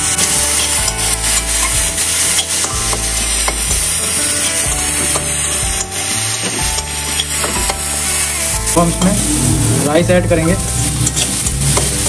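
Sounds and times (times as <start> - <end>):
metal spatula scraping a pan: 0.0 - 10.0, 10.6 - 12.0
vegetables sizzling in a pan: 0.0 - 12.0.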